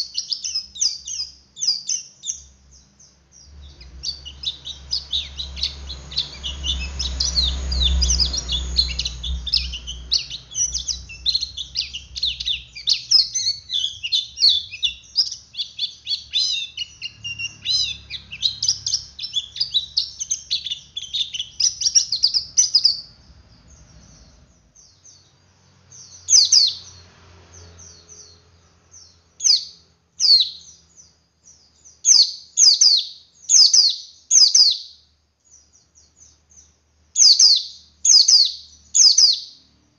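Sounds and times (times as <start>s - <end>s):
bird twittering high chirps: 0.0s - 39.8s.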